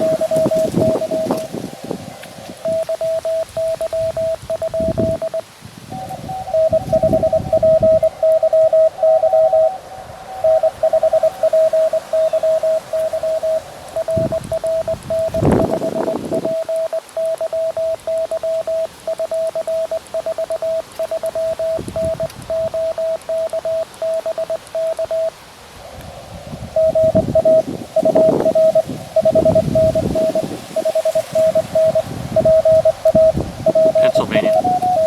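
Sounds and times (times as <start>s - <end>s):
morse code tone: 0.0s - 1.7s, 2.4s - 9.8s, 10.4s - 25.3s, 26.7s - 35.0s
receiver hiss: 0.0s - 35.0s
wind rumbling on microphone: 0.0s - 35.0s.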